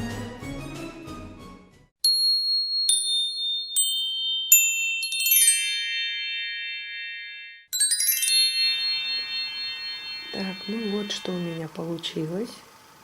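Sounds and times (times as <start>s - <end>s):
glockenspiel-like chime: 2.0s - 12.6s.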